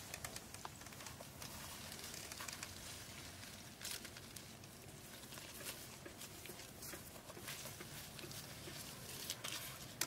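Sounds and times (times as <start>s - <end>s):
leafy branches rustling: 0.0s - 10.0s
steady outdoor hiss: 0.0s - 10.0s.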